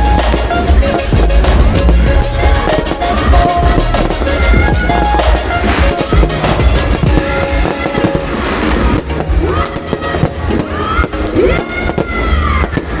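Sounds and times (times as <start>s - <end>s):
background music: 0.0s - 13.0s
fireworks bangs and crackles: 0.0s - 13.0s.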